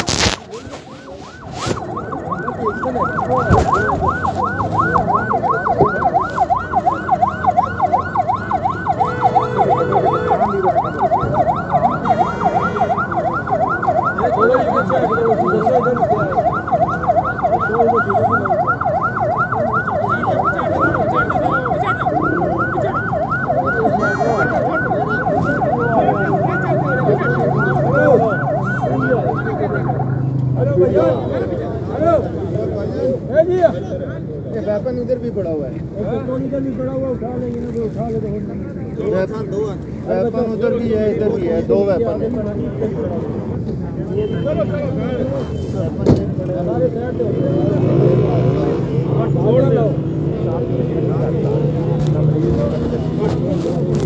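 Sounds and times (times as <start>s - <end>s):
ambulance siren yelp: 0.0s - 33.3s, 34.6s - 54.0s.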